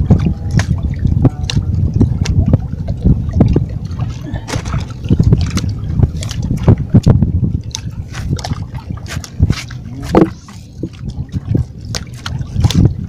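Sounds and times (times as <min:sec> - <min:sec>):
water slapping boat hull: 0:00.0 - 0:13.0
wind rumbling on microphone: 0:00.0 - 0:13.0.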